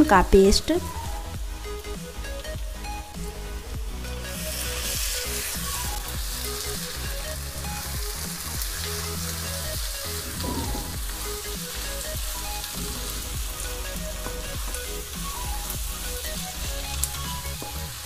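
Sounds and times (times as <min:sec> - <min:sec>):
onions sizzling in hot oil: 0:02.8 - 0:18.0.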